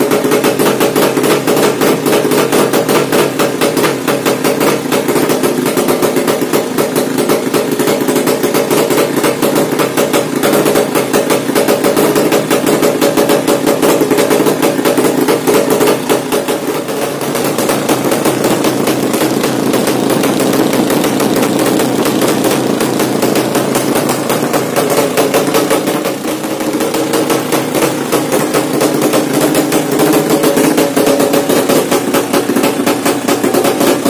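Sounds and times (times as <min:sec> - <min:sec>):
motorcycle engine running loud: 0:00.0 - 0:34.0.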